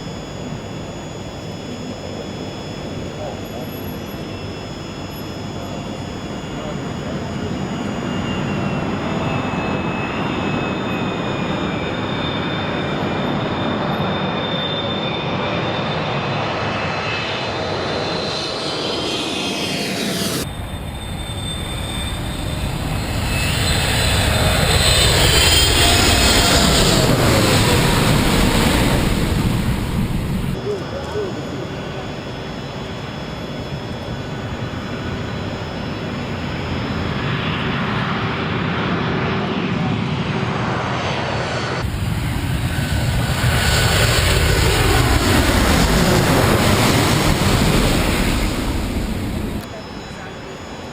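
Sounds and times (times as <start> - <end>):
jet engines passing close: 0.0 - 50.9.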